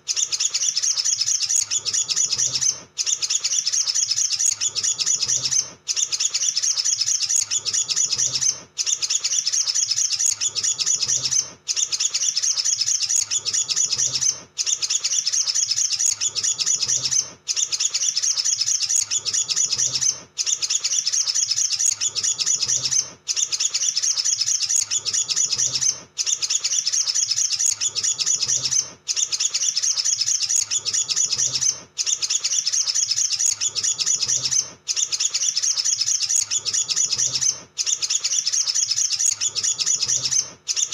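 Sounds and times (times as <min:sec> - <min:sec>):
sunbird chattering twitter: 0:00.1 - 0:40.9.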